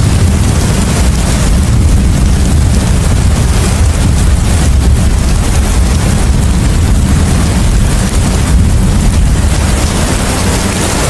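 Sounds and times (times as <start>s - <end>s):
deep low rumble: 0.0s - 11.0s
heavy rain: 0.0s - 11.0s
wind: 0.0s - 11.0s.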